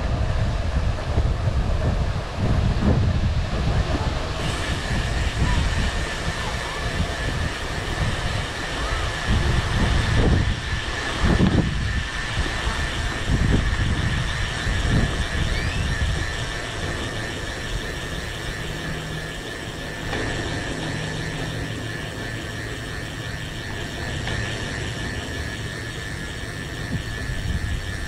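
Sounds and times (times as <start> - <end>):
wind buffeting microphone: 0.0 - 28.0
tyres humming on concrete: 1.9 - 28.0
thin steady high tone: 4.3 - 28.0.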